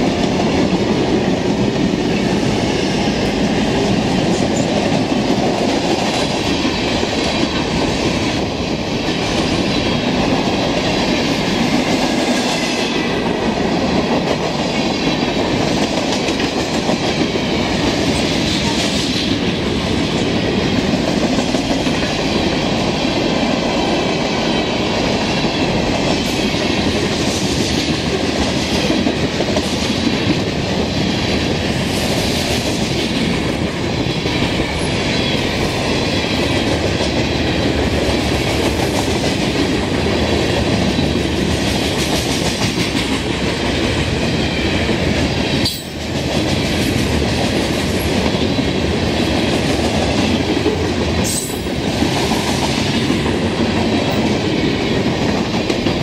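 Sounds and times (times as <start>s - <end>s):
rumble and hiss of wheels on rail: 0.0s - 56.0s.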